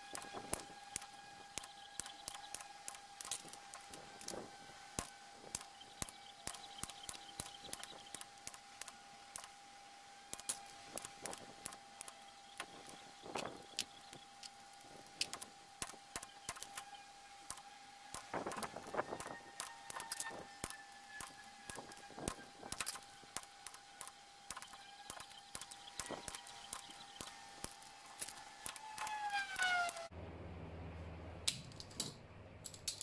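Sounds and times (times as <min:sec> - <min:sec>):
steady high hum: 0:00.0 - 0:33.0.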